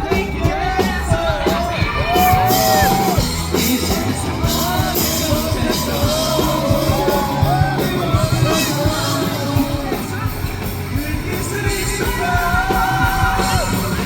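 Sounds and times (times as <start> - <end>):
man singing lead vocal: 0.0 - 14.0
rock band playing live: 0.0 - 14.0.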